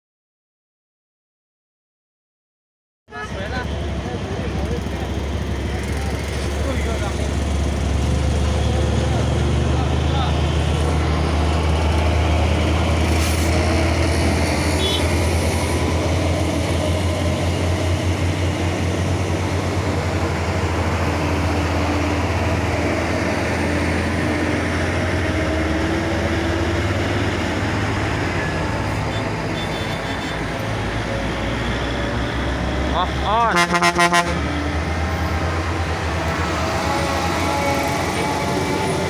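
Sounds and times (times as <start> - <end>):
truck diesel engine rumbling: 3.1 - 39.0.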